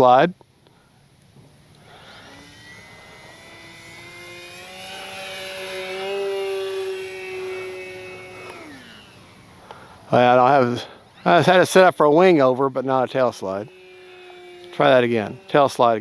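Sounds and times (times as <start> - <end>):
model plane electric motor whine: 1.4 - 16.0.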